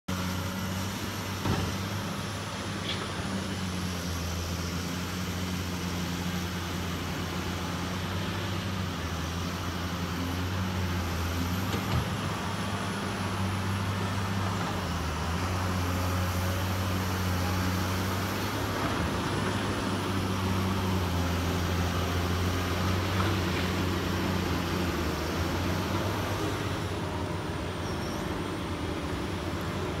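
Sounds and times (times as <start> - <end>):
excavator diesel engine running: 0.1 - 30.0.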